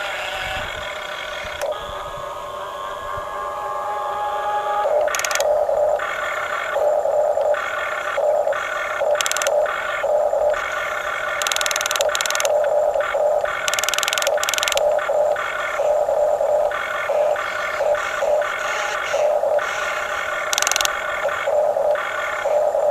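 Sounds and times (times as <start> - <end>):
small electric gear motors whining: 0.0 - 22.9.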